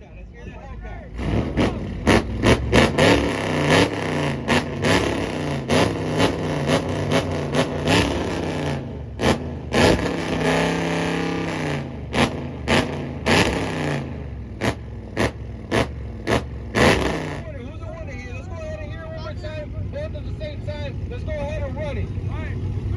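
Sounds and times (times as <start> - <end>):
car engine revving: 1.0 - 22.9.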